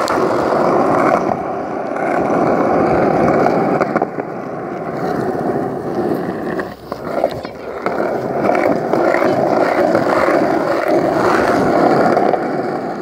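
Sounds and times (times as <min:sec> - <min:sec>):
hard wheels rolling on concrete: 0:00.0 - 0:13.0.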